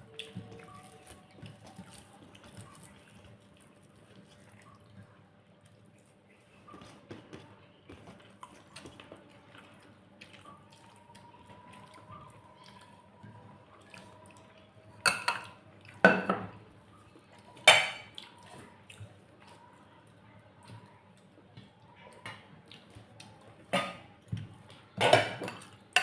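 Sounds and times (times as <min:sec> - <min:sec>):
wet food sounds: 0:00.0 - 0:26.0.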